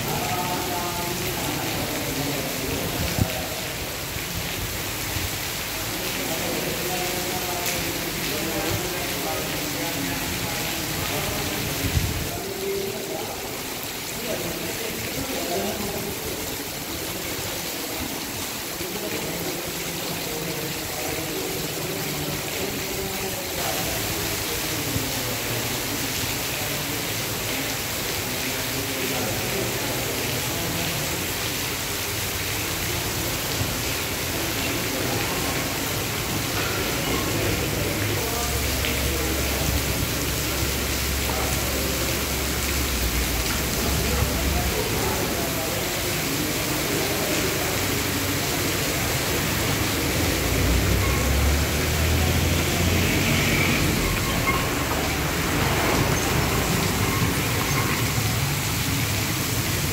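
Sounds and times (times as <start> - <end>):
torrential rain: 0.0 - 59.9.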